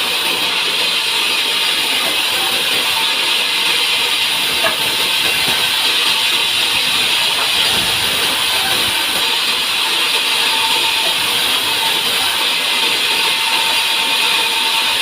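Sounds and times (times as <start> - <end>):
saw cutting through log: 0.0 - 15.0.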